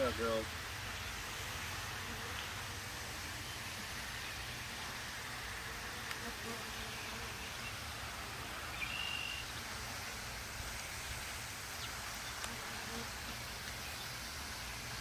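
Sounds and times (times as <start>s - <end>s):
steady outdoor hiss: 0.0s - 15.0s
bees buzzing: 0.8s - 15.0s.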